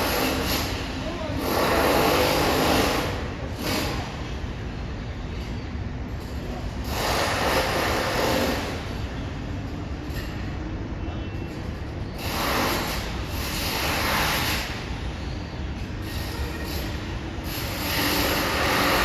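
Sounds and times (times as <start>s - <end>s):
harsh construction noise: 0.0s - 19.0s.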